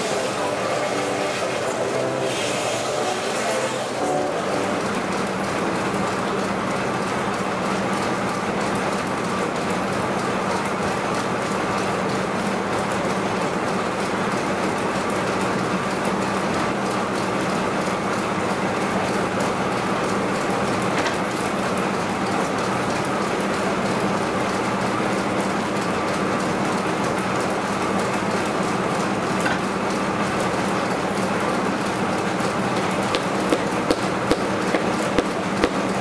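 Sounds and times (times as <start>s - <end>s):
sawmill machinery rattling: 0.0s - 36.0s.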